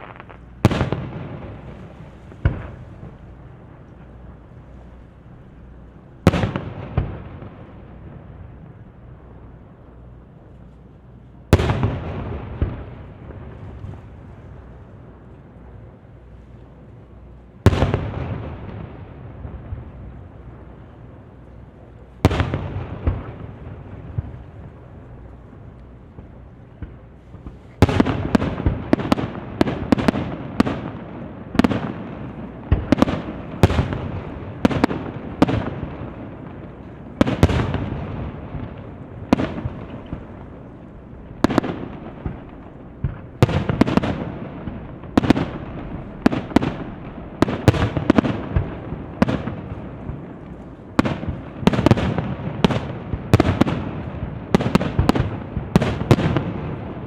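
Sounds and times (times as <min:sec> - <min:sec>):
fireworks booming with echo: 0:00.0 - 0:09.0, 0:11.5 - 0:14.8, 0:17.6 - 0:57.0.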